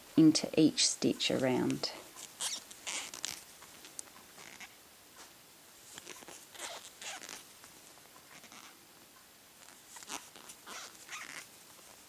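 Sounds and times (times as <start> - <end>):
crochet hook rustling yarn: 1.1 - 8.7, 9.6 - 12.0.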